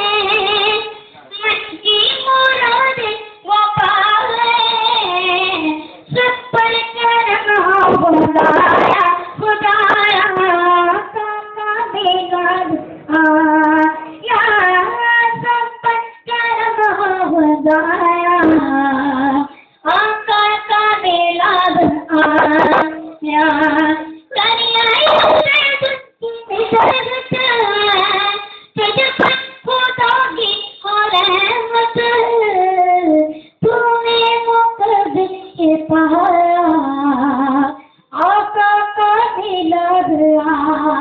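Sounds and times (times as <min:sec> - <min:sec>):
boy singing devotional song: 0:00.0 - 0:41.0.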